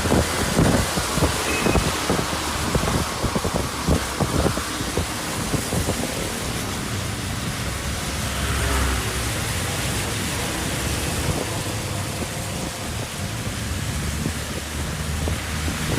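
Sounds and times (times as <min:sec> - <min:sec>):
steady rushing noise: 0:00.0 - 0:15.9.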